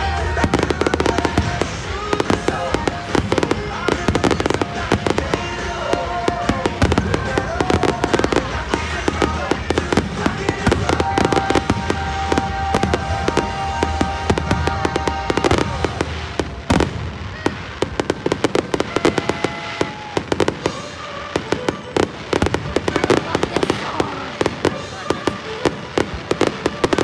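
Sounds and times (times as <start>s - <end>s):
fireworks bursting with crackles: 0.0s - 27.0s
music playing: 0.0s - 27.0s.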